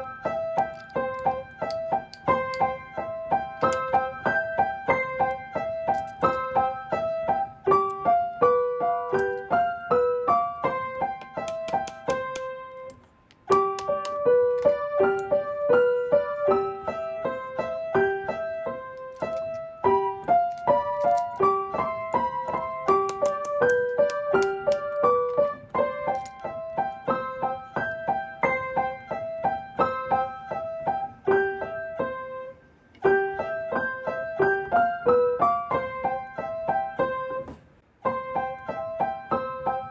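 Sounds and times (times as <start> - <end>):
piano melody: 0.0 - 39.9.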